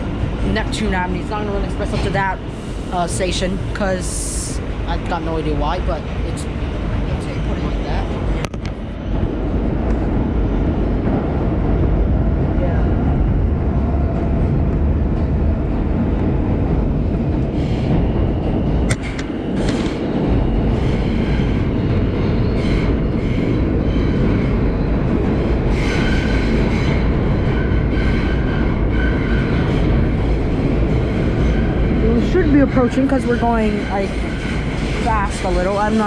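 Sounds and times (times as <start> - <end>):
subway train wheels rumbling: 0.0 - 36.0.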